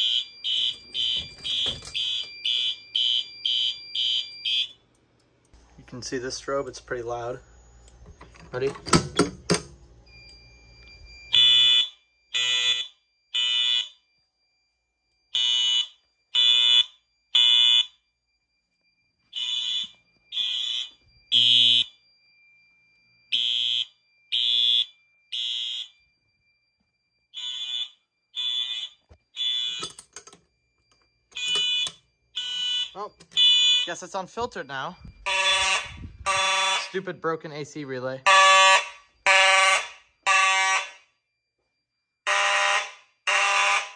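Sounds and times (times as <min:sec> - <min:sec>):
fire alarm horn blasts: 0:00.0 - 0:04.9, 0:10.1 - 0:43.9.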